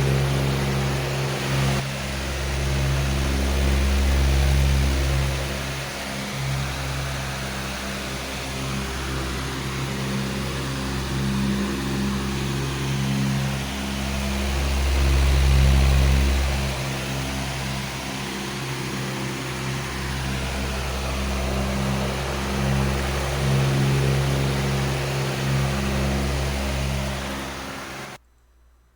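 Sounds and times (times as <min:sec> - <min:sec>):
electric fan running: 0:00.0 - 0:28.2.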